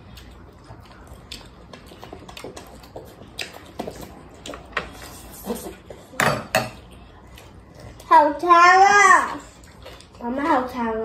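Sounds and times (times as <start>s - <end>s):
chewing: 0.0s - 8.1s, 9.3s - 10.8s.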